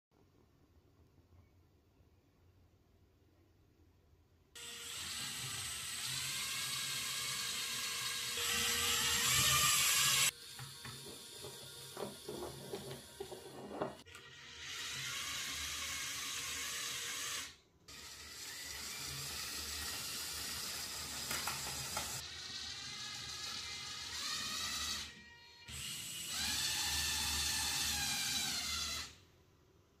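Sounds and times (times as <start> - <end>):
small electric motors whirring: 4.6 - 29.2.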